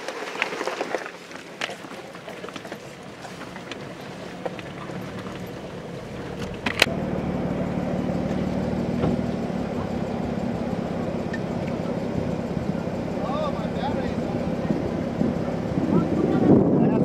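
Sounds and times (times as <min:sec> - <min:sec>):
vehicle engine running: 0:01.1 - 0:17.0.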